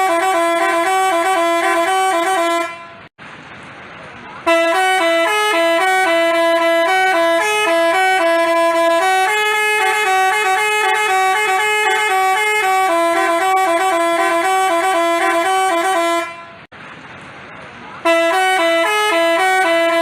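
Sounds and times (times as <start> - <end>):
multi-tone bus horn melody: 0.0 - 3.1, 4.4 - 16.7, 18.0 - 20.0.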